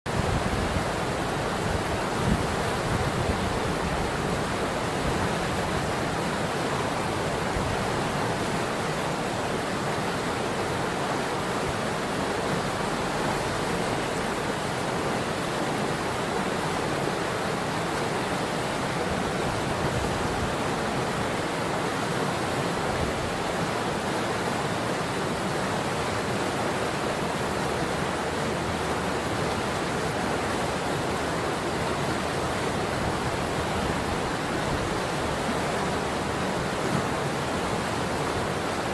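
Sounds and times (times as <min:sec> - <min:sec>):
river water rushing: 0:00.1 - 0:38.9.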